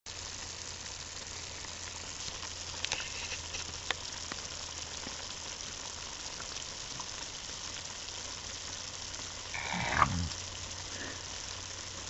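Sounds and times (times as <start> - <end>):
food simmering with sizzle: 0.1 - 12.0
wood fire crackling: 0.1 - 12.0.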